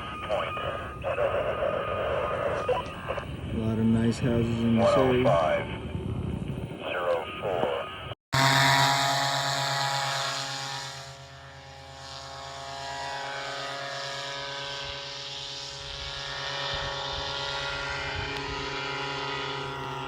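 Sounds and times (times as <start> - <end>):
engine drone: 0.0 - 6.0, 6.6 - 20.0.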